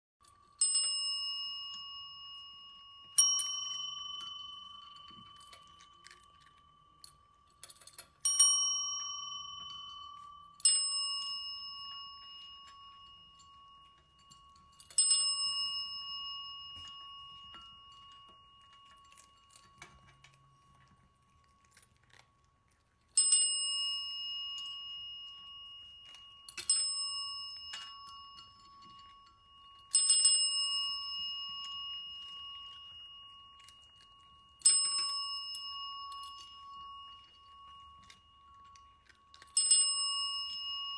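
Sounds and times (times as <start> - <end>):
desk bell dings: 0.6 - 7.0, 7.7 - 20.6, 23.2 - 38.6, 39.6 - 40.9.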